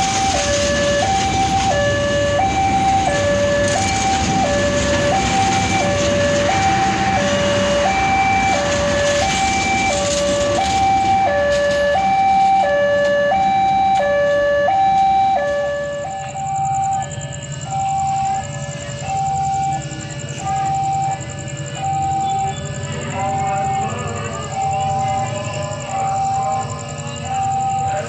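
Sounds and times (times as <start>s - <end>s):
train coaches rumbling past: 0.0s - 28.0s
two-tone level crossing alarm: 0.0s - 28.0s.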